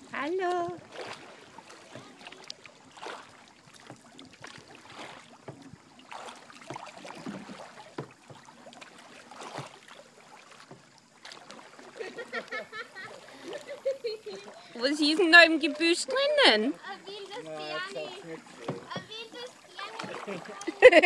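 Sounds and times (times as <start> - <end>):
paddle splashing and dripping: 0.0 - 21.0.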